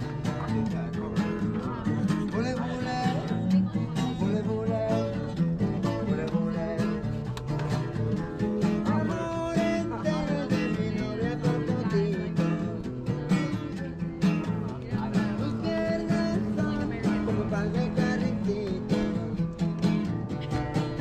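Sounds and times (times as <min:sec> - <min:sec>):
strummed acoustic guitar music: 0:00.0 - 0:21.0.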